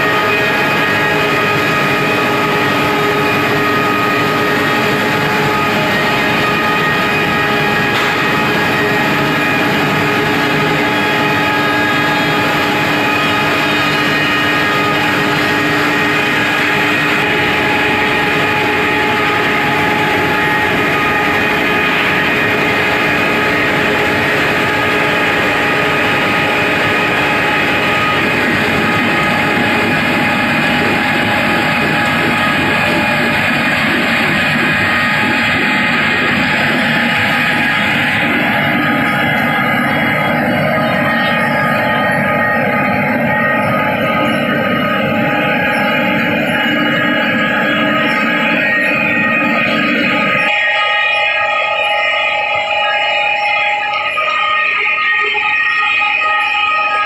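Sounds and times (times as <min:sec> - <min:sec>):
machine drone: 0:00.0 - 0:57.0
whining tones: 0:00.0 - 0:57.0.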